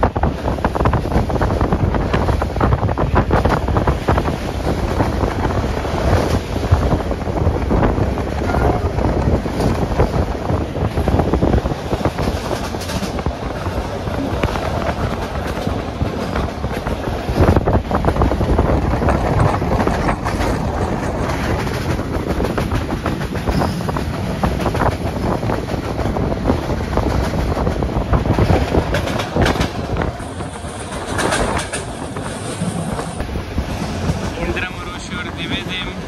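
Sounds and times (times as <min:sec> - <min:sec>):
train rumbling: 0:00.0 - 0:36.0
train wheels clattering over track: 0:00.0 - 0:36.0.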